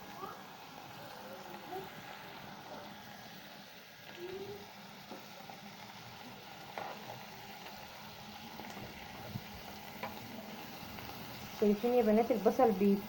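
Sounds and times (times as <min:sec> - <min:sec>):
meat and onion sizzling: 0:00.0 - 0:13.0.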